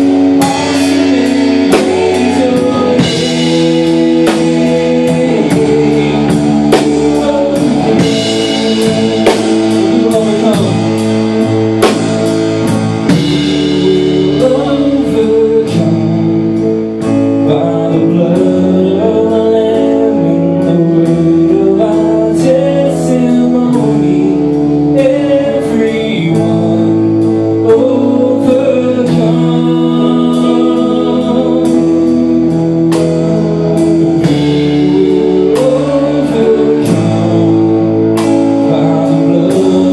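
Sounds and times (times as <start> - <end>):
drum kit beat: 0.0 - 39.9
guitar: 0.0 - 39.9
person singing: 0.0 - 39.9
sustained chords: 0.0 - 39.9.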